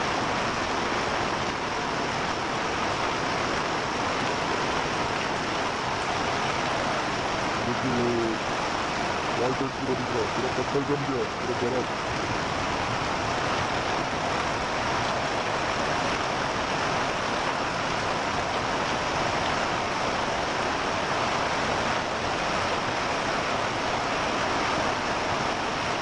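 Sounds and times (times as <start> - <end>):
heavy rain and hail: 0.0 - 26.0.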